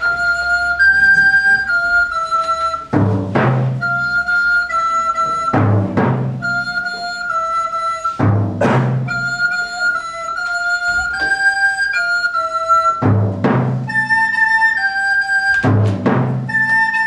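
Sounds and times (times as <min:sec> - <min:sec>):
slow wind instrument melody: 0:00.0 - 0:17.0.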